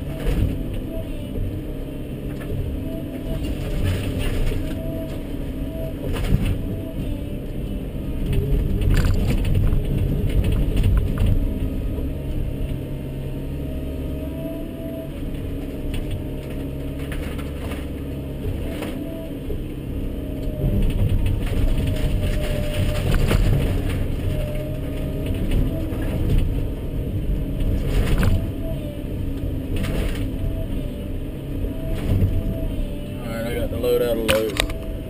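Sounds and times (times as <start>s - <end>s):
excavator engine and hydraulics: 0.0s - 35.0s.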